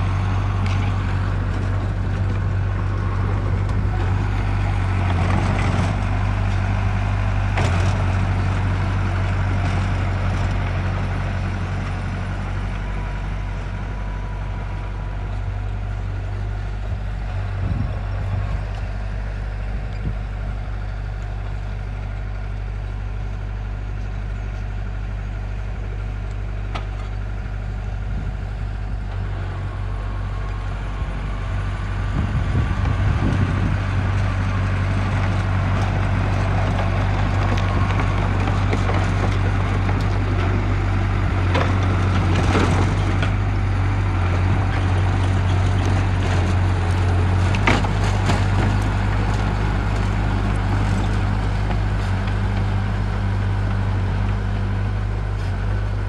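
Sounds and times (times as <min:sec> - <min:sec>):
construction machinery diesel engine: 0:00.0 - 0:56.0.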